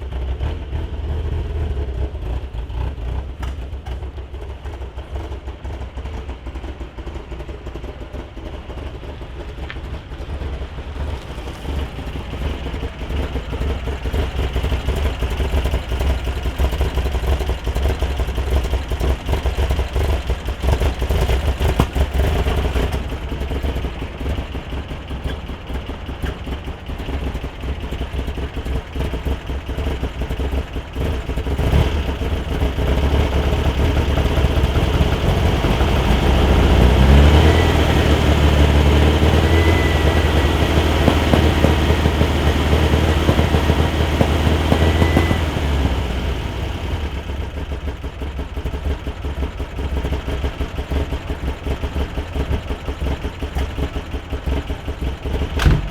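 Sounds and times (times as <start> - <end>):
car engine idling and revving: 0.0 - 55.9
engine knocking noise: 0.0 - 55.9.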